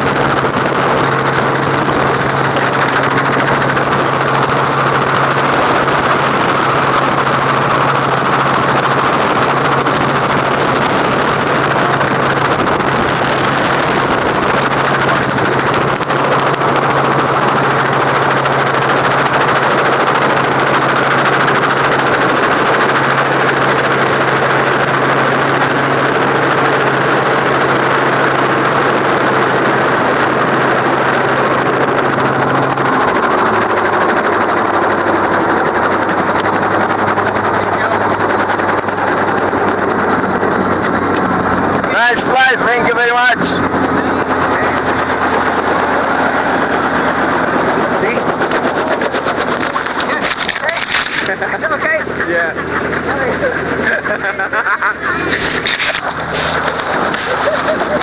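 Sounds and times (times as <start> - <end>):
constant low hum: 0.0 - 58.0
helicopter engine and rotor noise: 0.0 - 58.0.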